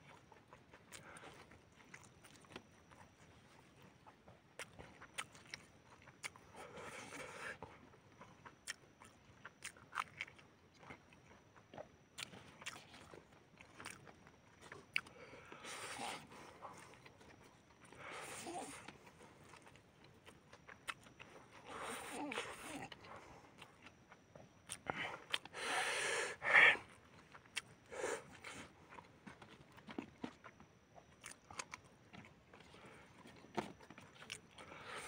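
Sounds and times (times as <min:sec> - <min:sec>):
breathy eating sounds: 0:00.0 - 0:35.0
chewing noodles: 0:00.0 - 0:35.0
crunchy bites: 0:04.6 - 0:35.0.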